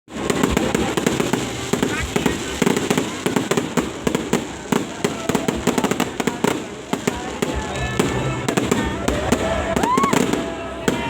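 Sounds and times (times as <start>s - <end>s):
fireworks exploding: 0.1s - 11.0s.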